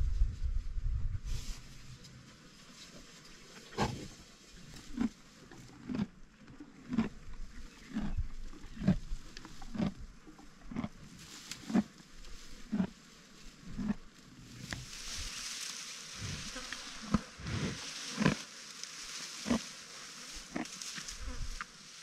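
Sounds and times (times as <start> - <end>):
rhinoceros chewing grass: 1.9 - 22.0.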